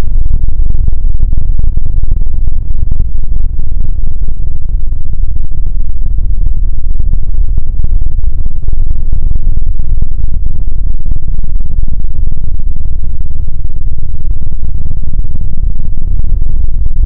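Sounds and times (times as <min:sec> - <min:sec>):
distorted low rumble: 0:00.0 - 0:17.0.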